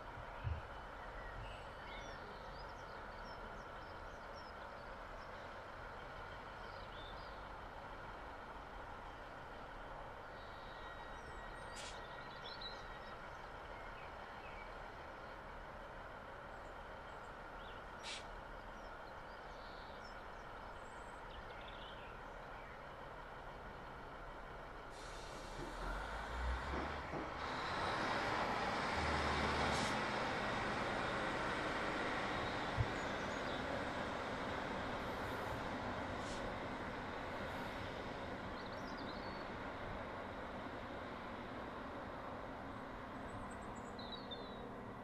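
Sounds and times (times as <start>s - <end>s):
diesel train idling: 0.0s - 45.0s
faint birds chirping: 0.1s - 26.2s, 30.8s - 45.0s.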